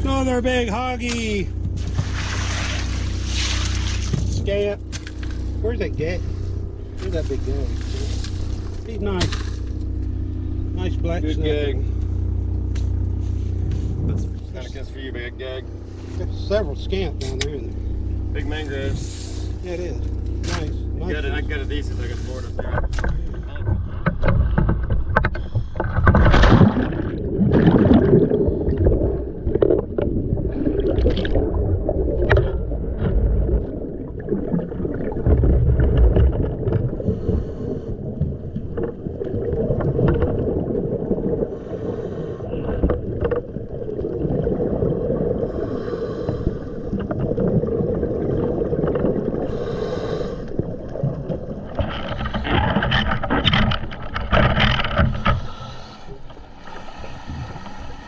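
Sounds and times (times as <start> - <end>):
muffled underwater water noise: 0.0 - 58.0
bubbling: 1.5 - 10.8, 19.5 - 58.0.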